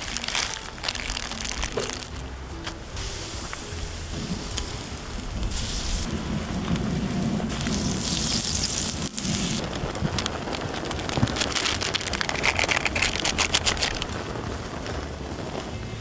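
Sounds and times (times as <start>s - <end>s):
food sizzling in a frying pan: 0.0s - 16.0s
low rumble: 0.0s - 16.0s.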